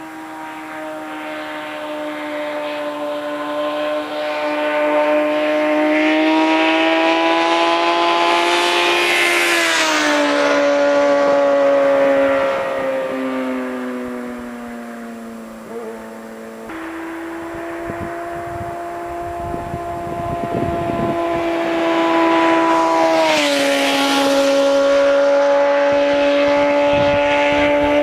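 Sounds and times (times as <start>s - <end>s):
motorcycle passing at high revs: 0.0s - 28.0s.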